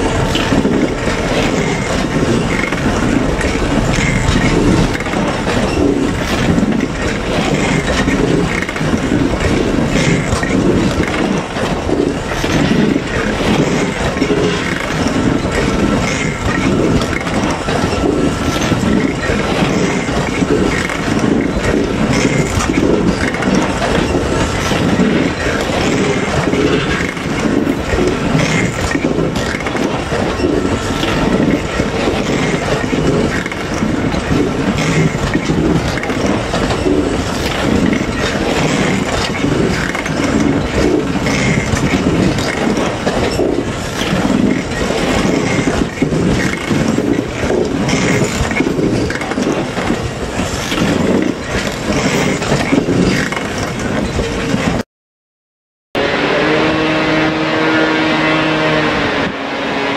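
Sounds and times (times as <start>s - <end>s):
train wheels rumbling on rails: 0.0s - 54.8s, 56.0s - 59.9s
wagons clattering and knocking: 0.0s - 54.8s.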